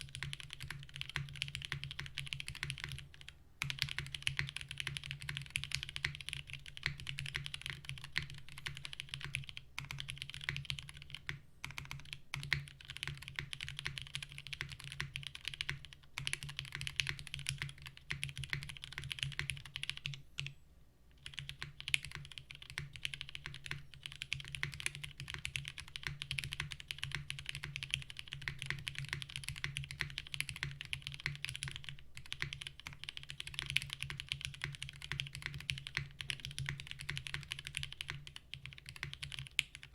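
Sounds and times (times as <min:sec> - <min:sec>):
mechanical keyboard typing: 0:00.0 - 0:20.5, 0:21.2 - 0:39.9.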